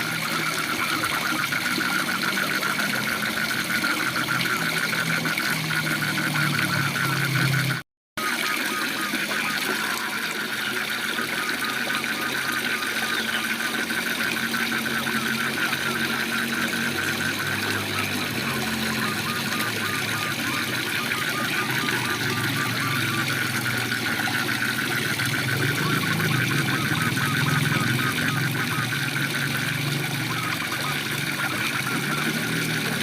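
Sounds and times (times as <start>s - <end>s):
frogs calling: 0.0s - 33.0s.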